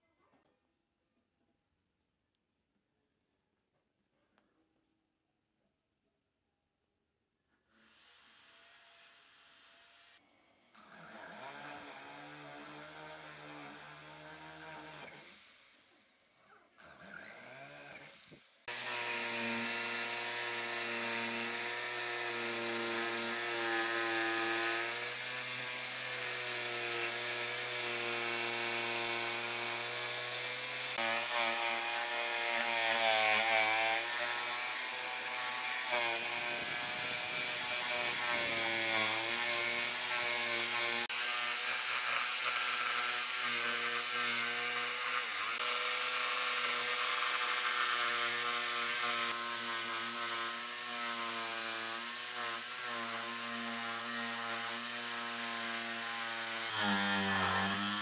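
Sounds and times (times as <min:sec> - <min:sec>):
jigsaw cutting wood: 0:07.7 - 0:58.0
electric drill boring into wood: 0:07.8 - 0:10.2, 0:10.8 - 0:58.0.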